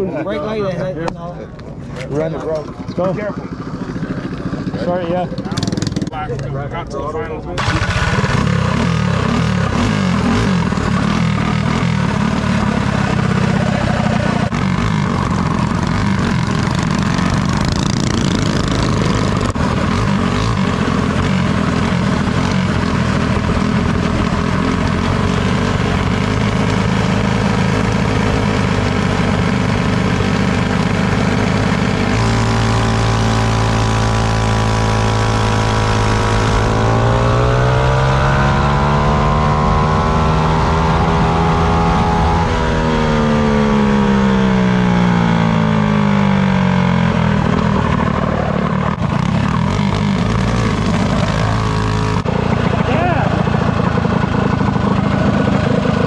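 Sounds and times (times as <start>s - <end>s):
minibike engine running: 2.0s - 6.6s, 7.6s - 56.0s.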